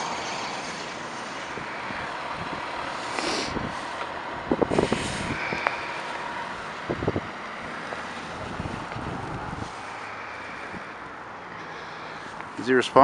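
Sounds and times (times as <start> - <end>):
outdoor vehicle hum: 0.0 - 13.0
suv engine pulling away: 0.0 - 13.0.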